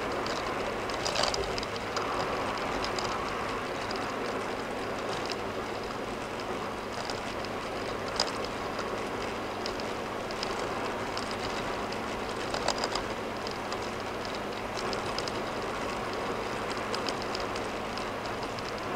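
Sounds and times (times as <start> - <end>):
car tyre and road noise: 0.0 - 18.9
light knocks and ticks: 0.0 - 18.9.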